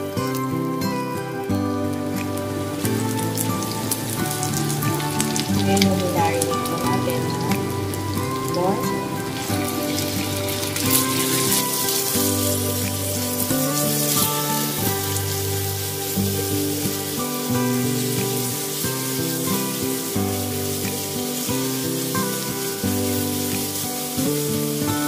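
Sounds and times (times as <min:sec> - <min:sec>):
background music with held notes: 0:00.0 - 0:25.0
meat sizzling in oil: 0:00.0 - 0:25.0.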